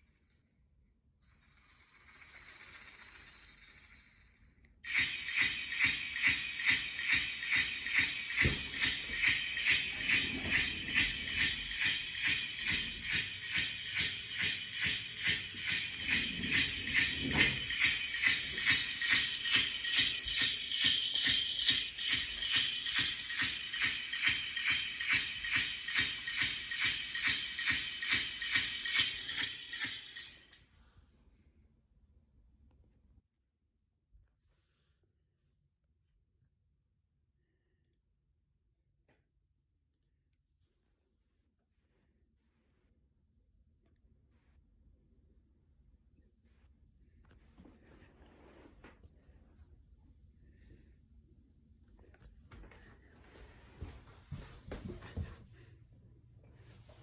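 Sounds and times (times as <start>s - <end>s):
jingle bells shaken: 1.2s - 30.6s, 40.4s - 57.0s.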